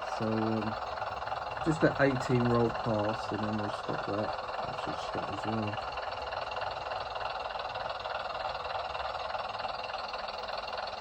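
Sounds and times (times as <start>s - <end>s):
diesel engine sound through small speaker: 0.0s - 11.0s.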